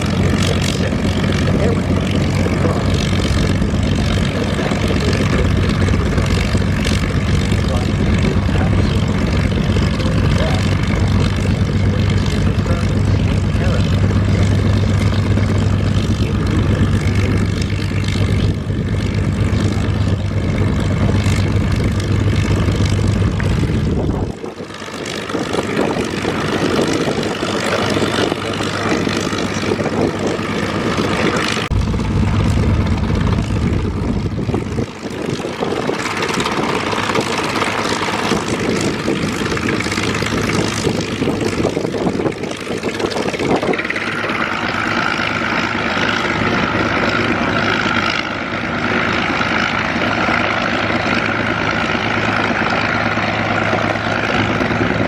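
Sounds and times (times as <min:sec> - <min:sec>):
propeller plane engine rumbling: 0:00.0 - 0:55.0.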